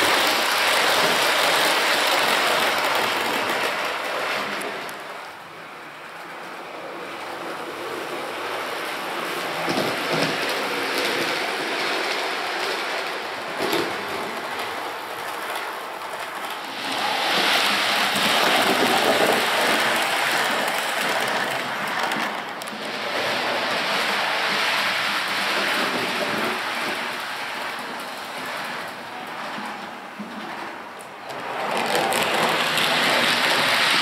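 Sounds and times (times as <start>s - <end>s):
model train rolling on track: 0.0s - 34.0s.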